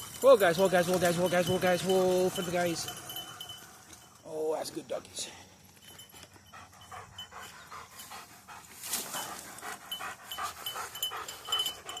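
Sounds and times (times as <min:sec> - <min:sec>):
dogs panting hard: 0:00.0 - 0:03.9, 0:05.9 - 0:12.0
light metallic jingle: 0:00.0 - 0:12.0.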